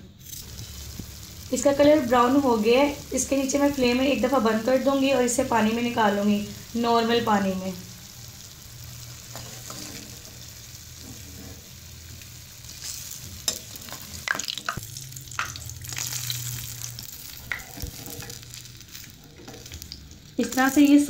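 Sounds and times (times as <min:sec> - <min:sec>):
food sizzling in hot oil: 0:00.1 - 0:21.0.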